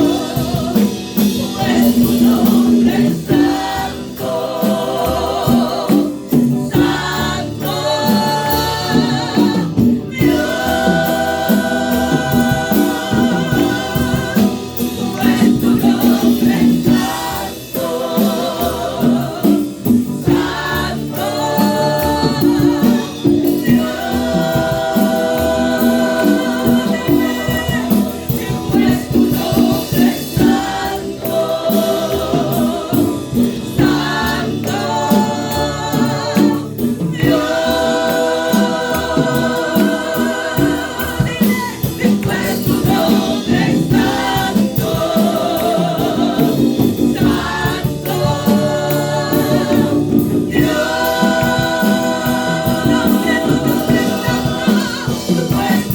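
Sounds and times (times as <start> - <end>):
band with steady beat: 0.0 - 55.9
group singing a praise song: 0.0 - 55.9.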